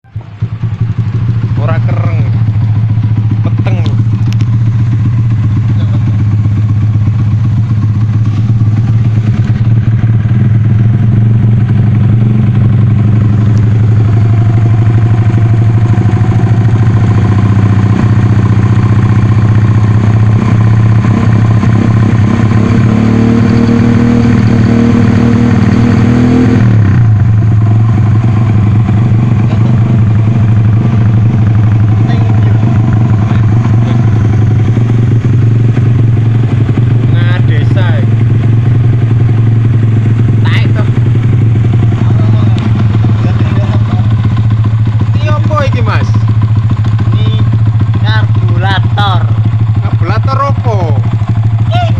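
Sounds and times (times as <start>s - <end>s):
motorcycle engine idling and revving: 0.0s - 51.9s.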